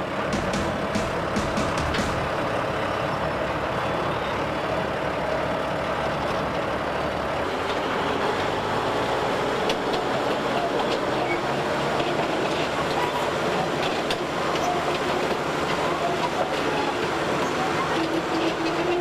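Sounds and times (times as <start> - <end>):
heavy construction machinery running: 0.0 - 19.0.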